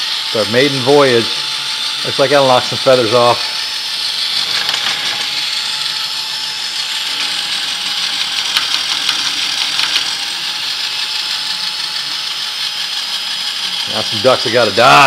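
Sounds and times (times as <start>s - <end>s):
electric drill spinning: 0.0s - 15.0s.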